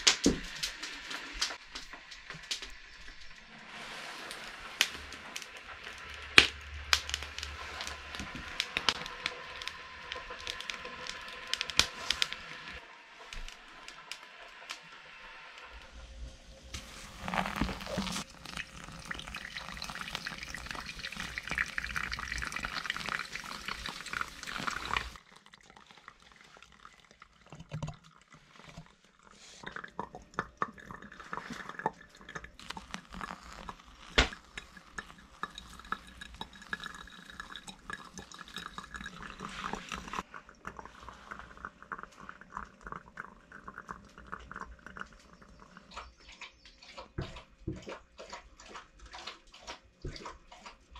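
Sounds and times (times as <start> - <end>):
water pouring onto coffee: 1.6 - 14.2, 16.7 - 45.9
soft ticks and drips: 4.3 - 16.0, 16.7 - 50.9.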